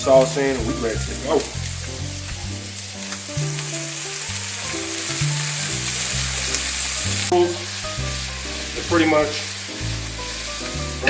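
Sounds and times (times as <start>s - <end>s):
background music with bass line: 0.0s - 11.0s
vegetables sizzling in a frying pan: 0.0s - 11.0s.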